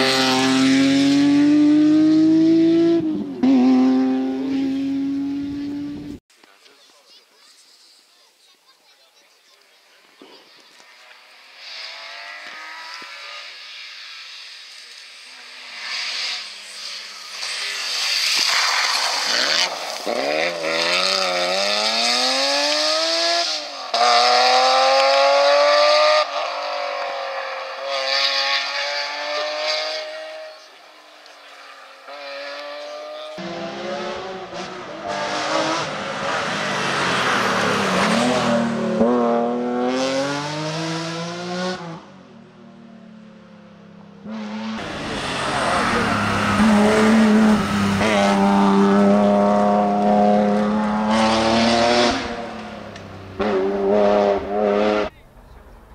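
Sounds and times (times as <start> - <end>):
rally car engine at full throttle: 0.0 - 6.2, 10.8 - 55.9.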